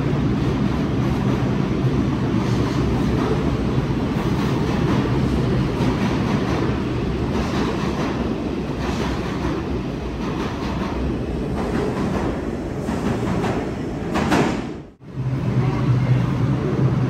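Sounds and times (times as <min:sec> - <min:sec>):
subway train rolling on rails: 0:00.0 - 0:17.0.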